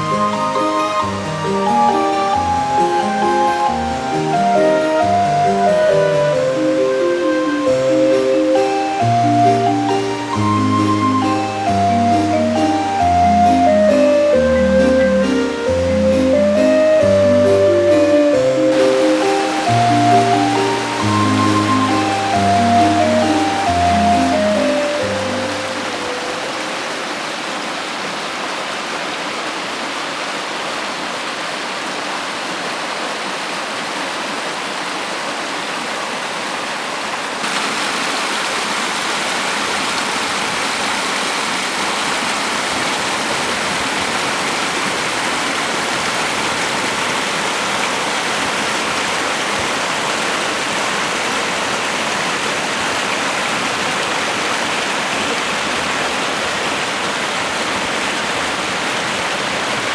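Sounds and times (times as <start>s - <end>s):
waterfall pouring: 0.0s - 31.3s, 36.6s - 59.9s.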